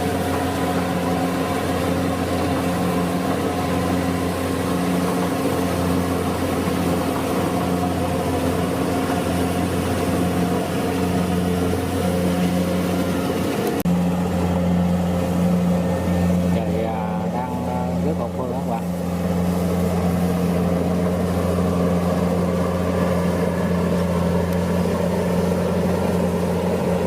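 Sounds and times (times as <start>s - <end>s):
combine harvester diesel engine: 0.0s - 27.0s.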